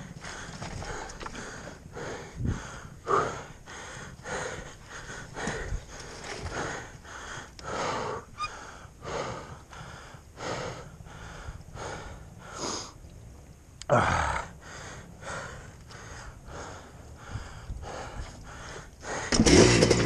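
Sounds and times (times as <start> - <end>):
person breathing hard in helmet: 0.0 - 13.0, 14.0 - 19.4.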